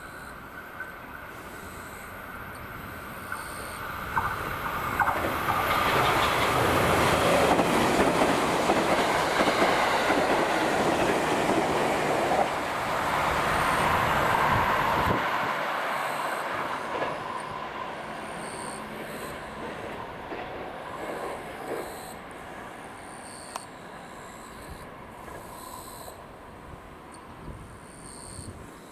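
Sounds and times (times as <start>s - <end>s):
train wheels running on rails: 0.0s - 28.9s.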